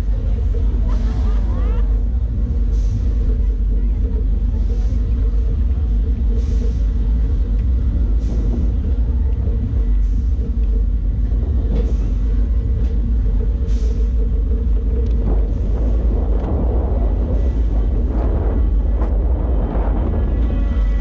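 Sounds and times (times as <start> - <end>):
lift chain drone: 0.0 - 21.0
roller coaster low rumble: 0.0 - 21.0.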